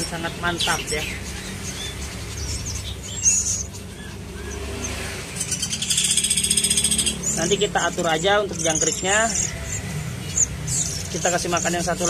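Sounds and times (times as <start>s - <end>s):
motorbike traffic rumble: 0.0s - 12.0s
small birds chirping: 0.0s - 12.0s.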